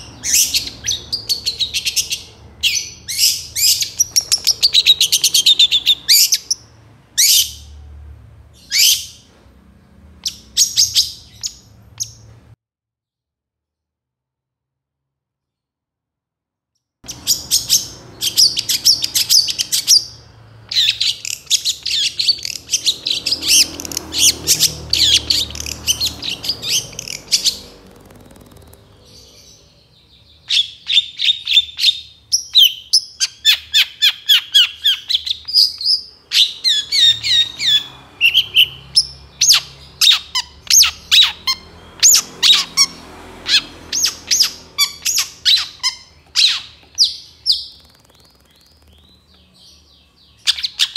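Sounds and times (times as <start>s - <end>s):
bird singing rapid chattering notes: 0.0s - 7.7s, 10.2s - 12.3s, 17.1s - 50.9s.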